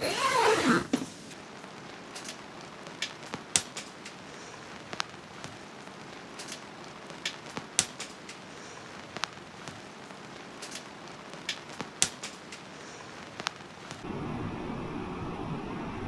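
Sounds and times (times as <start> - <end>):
fire hissing softly: 0.4 - 16.0
firewood crackling and popping: 1.1 - 14.1.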